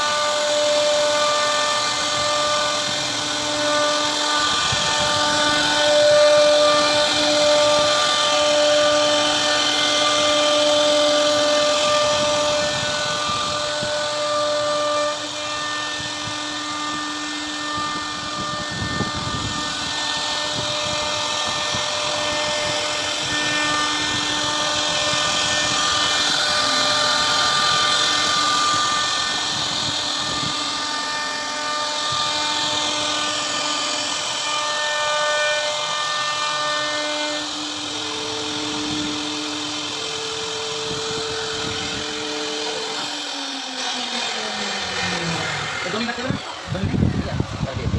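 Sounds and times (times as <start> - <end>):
router spindle whine: 0.0 - 47.9
wood cutting noise: 0.0 - 47.9.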